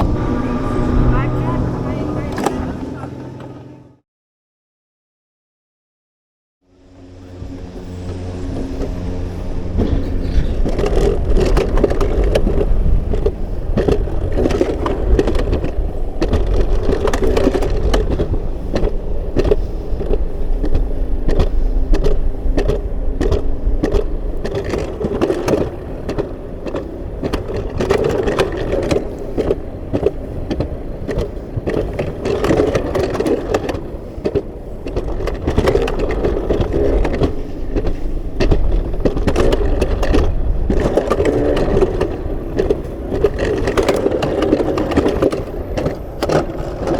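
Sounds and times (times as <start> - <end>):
coaster sled rumbling on rails: 0.0 - 4.0, 6.7 - 46.9
rattling clicks and knocks: 8.0 - 46.9.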